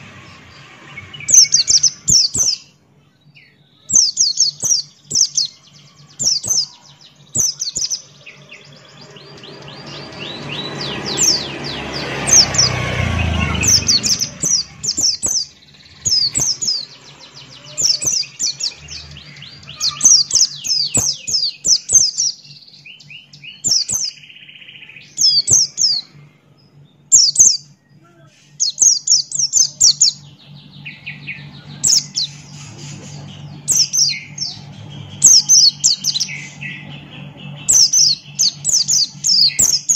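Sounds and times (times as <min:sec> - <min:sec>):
bird chirping high and thin: 0:00.0 - 0:39.9
steady low hum: 0:00.0 - 0:39.9.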